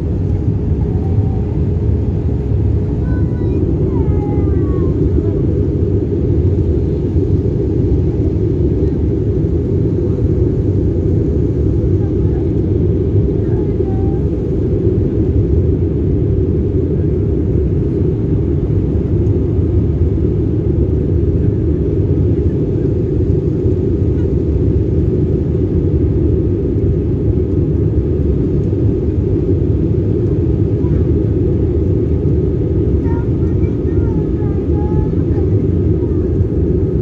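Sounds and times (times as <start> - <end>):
jet airliner cabin noise: 0.0 - 37.0.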